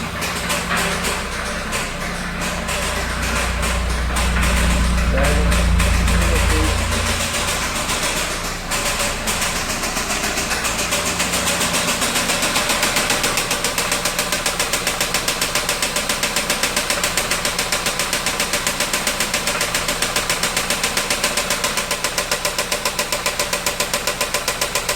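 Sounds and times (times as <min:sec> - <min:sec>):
engine idling with rapid knock: 0:00.0 - 0:24.9.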